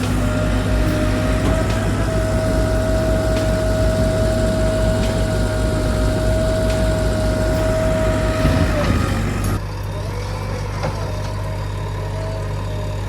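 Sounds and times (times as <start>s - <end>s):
diesel engine throb: 0.0s - 13.0s
high machine whine: 0.0s - 13.0s.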